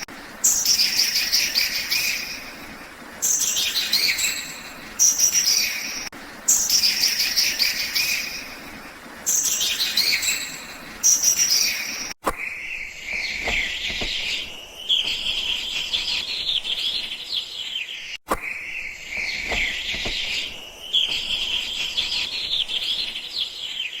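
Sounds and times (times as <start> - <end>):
jungle birds chirping: 0.0 - 24.0.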